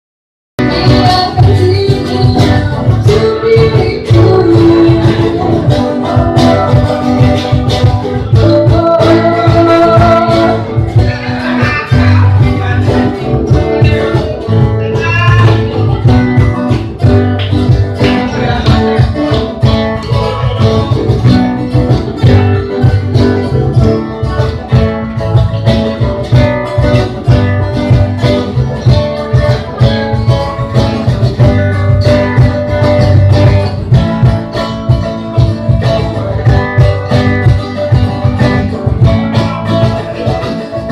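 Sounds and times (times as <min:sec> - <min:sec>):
bass: 0:00.6 - 0:40.9
drum beat: 0:00.6 - 0:40.9
guitars: 0:00.6 - 0:40.9.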